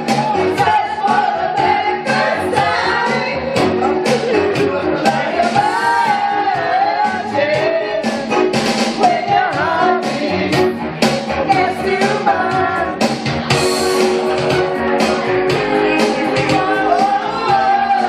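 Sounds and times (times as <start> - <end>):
band playing with steady beat: 0.0 - 18.0.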